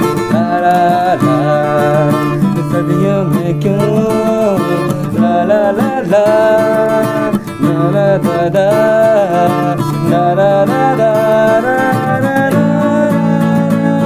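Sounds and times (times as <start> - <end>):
acoustic guitars strummed: 0.0 - 14.0
wordless singing: 0.0 - 14.0.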